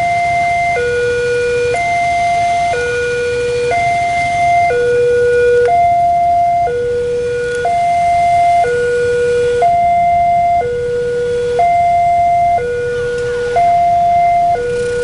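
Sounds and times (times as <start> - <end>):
two-tone level crossing alarm: 0.0 - 15.0.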